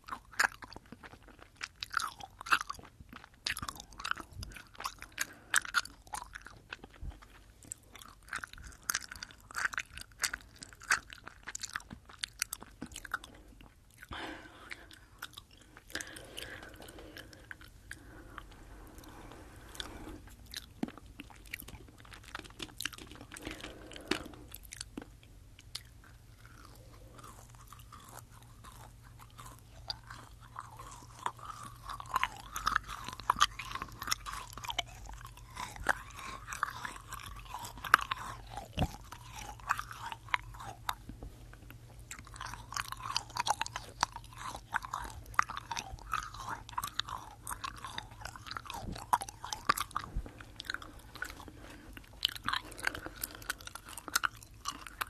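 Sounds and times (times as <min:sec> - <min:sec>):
chewing gummy candy: 0:00.0 - 0:55.0.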